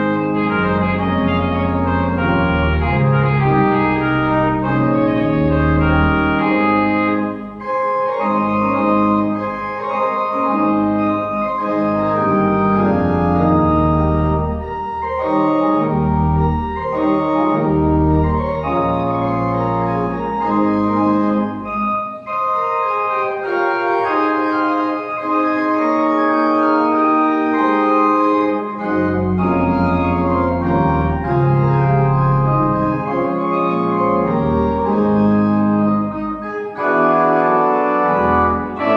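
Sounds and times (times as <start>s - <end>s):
pipe organ chords: 0.0s - 38.9s.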